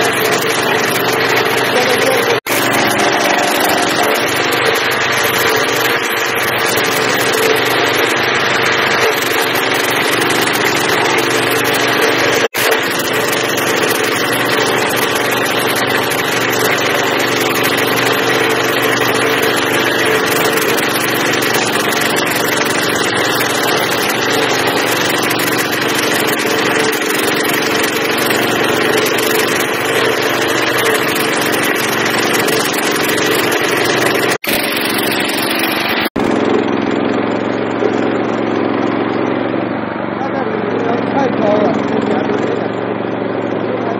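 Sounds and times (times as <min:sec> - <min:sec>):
cutting wheel grinding stump: 0:00.0 - 0:43.9
small petrol engine running: 0:00.0 - 0:43.9.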